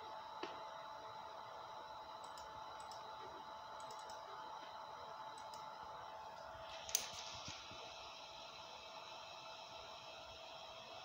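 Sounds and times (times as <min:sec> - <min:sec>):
faint stepper motor whine: 0:00.0 - 0:11.0.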